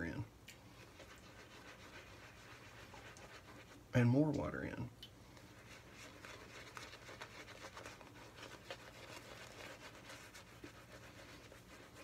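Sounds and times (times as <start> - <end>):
shaving brush crackling in lather: 0.7 - 3.8, 5.3 - 12.0.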